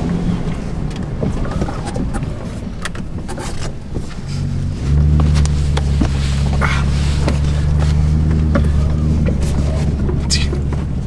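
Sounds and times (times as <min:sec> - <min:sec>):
engine drone: 0:00.0 - 0:11.0
truck driving through snow: 0:00.0 - 0:11.0.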